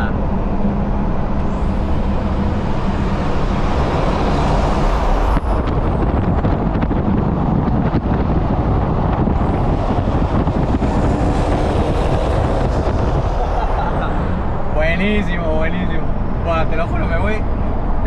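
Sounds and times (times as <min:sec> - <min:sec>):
loud car exhaust echoing in tunnel: 0:00.0 - 0:14.8
road and wind noise: 0:00.0 - 0:18.0.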